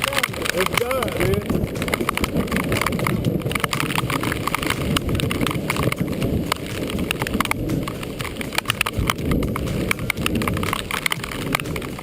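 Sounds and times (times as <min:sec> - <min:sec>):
heavy rain rumble: 0:00.0 - 0:12.0.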